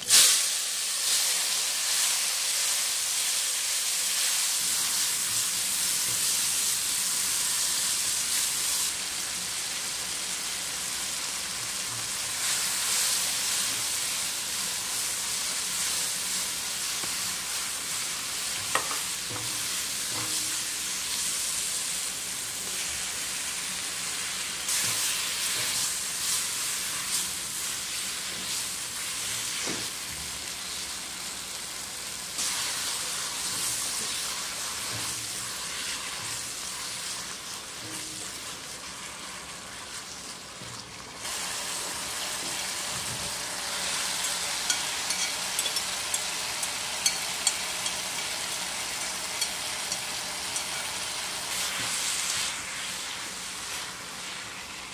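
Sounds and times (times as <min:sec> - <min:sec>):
noodles sizzling in wok: 0:00.0 - 0:54.9.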